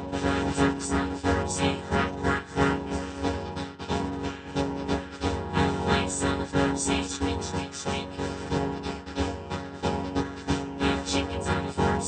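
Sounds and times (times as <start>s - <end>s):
vocoder children's song: 0.0s - 12.0s.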